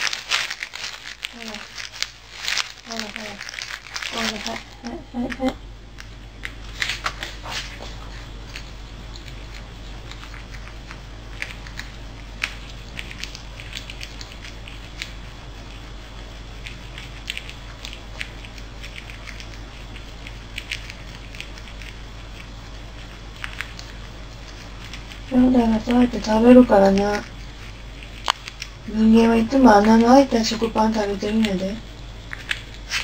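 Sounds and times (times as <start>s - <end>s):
squirrel chewing bread: 0.0s - 33.0s.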